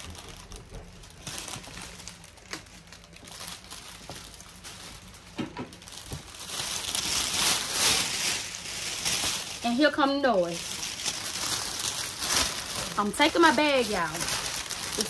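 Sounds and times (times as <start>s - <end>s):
plastic crinkling and rustling: 0.0s - 15.0s.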